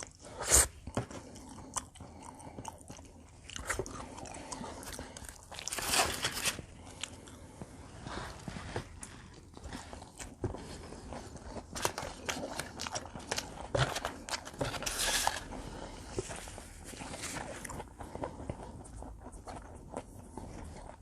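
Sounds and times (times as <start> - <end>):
chewing and biting food: 0.0 - 21.0.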